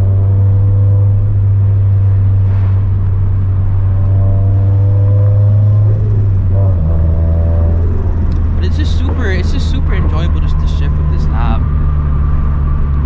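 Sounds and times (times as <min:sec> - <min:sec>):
car engine droning from inside: 0:00.0 - 0:13.0.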